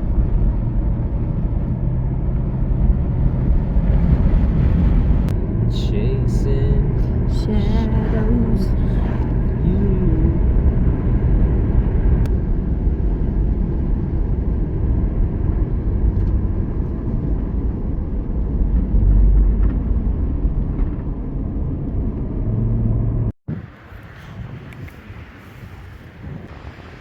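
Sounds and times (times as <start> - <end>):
vehicle road and engine rumble: 0.0 - 27.0.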